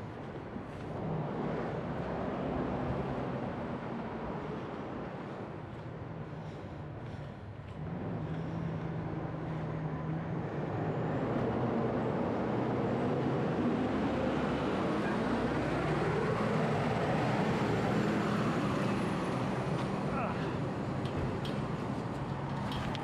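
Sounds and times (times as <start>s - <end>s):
low engine hum: 0.0s - 23.0s
road noise: 0.0s - 23.0s.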